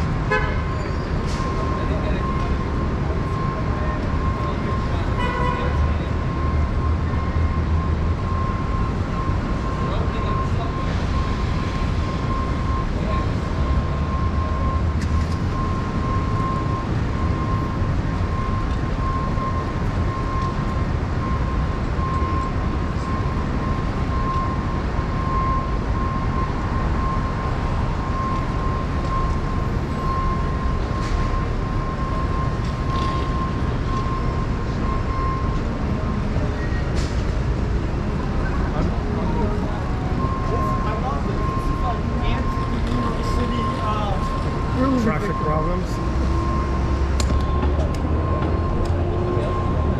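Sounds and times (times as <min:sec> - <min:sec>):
loud city noise rumble: 0:00.0 - 0:49.9
continuous high tone: 0:00.7 - 0:49.9.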